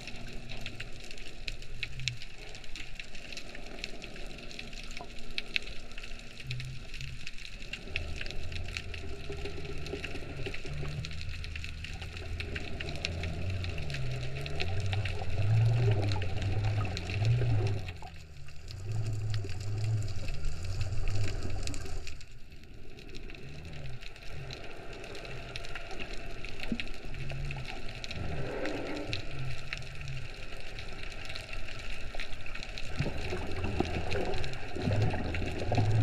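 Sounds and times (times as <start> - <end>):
fine underwater crackle: 0.0 - 36.0
wavering low underwater drone: 0.0 - 36.0.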